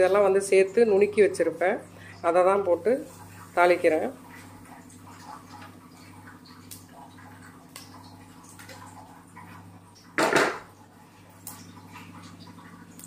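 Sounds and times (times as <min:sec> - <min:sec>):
spices crackling in hot oil: 0:00.0 - 0:13.0
steady low hum: 0:00.0 - 0:13.0.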